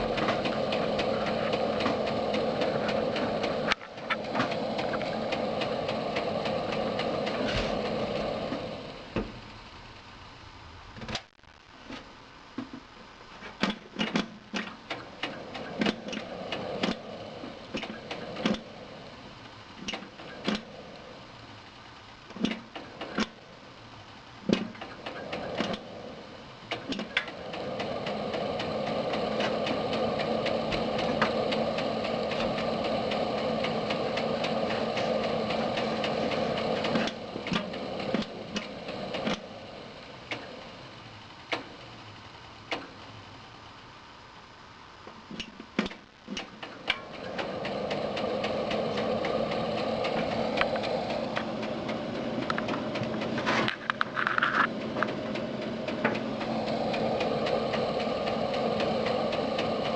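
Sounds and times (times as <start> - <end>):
computer fan whirring: 0.0 - 59.9.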